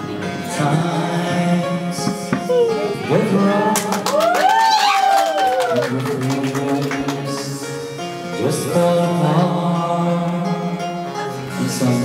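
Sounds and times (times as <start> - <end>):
karaoke backing track: 0.0 - 12.0
man singing into microphone: 0.1 - 4.4, 5.6 - 12.0.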